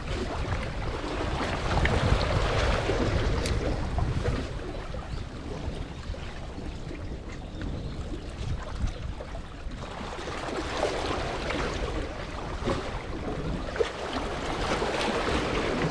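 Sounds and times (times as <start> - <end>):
wind rumble on microphone: 0.0 - 15.9.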